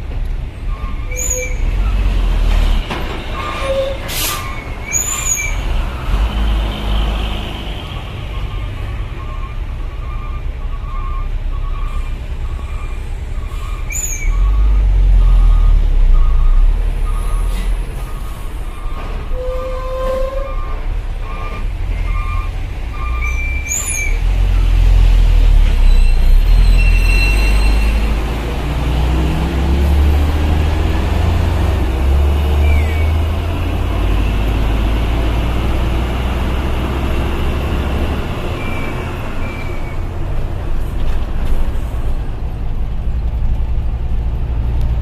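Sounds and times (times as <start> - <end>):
truck diesel engine rumbling: 0.0 - 45.0.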